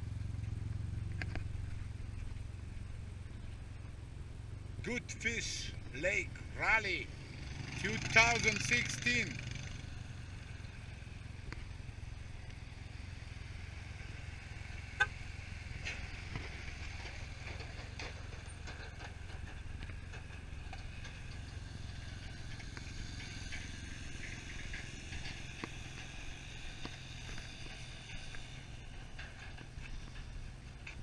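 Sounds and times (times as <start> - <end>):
atv engines rumbling: 0.0 - 31.0.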